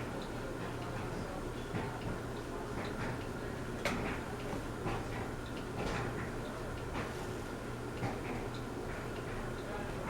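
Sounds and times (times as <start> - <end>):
fan ticking: 0.0 - 9.9
ceiling fan humming: 0.0 - 10.0.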